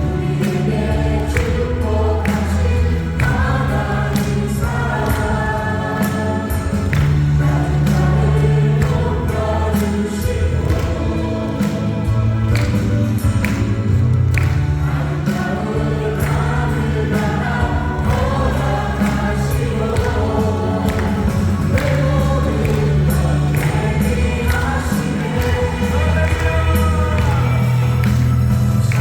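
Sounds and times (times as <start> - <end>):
acoustic guitar: 0.0 - 29.0
keyboards: 0.0 - 29.0
steady drum beat: 0.0 - 29.0
voices singing together: 0.0 - 29.0.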